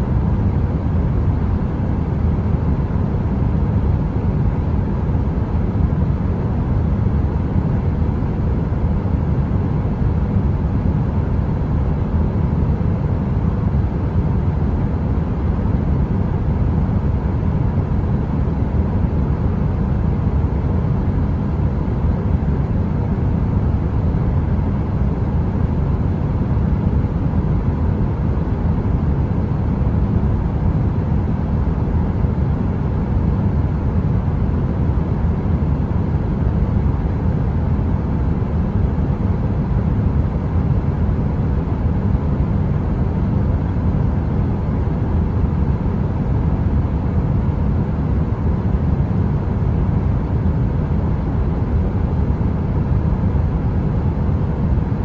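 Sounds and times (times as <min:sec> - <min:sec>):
faint constant hum: 0:00.0 - 0:55.0.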